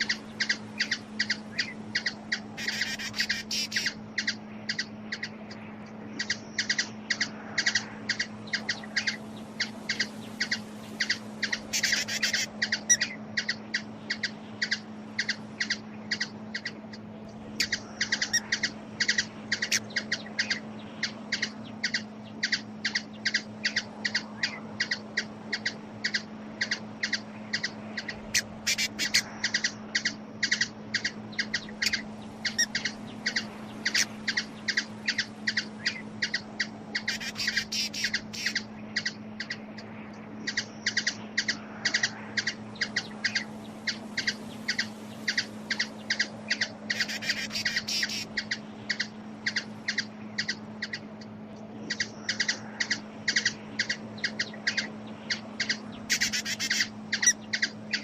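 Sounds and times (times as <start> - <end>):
hummingbird chip calls: 0.0 - 58.0.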